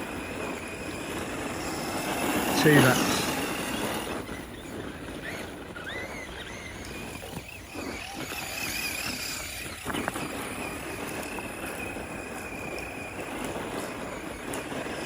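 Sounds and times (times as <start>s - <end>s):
electric motor whining: 0.0s - 15.0s
outdoor noise: 0.0s - 15.0s.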